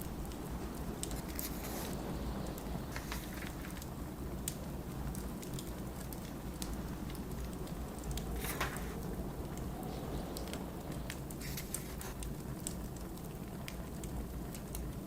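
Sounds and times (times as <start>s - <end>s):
fireplace crackling: 0.0s - 15.0s
low blizzard wind: 0.0s - 15.0s.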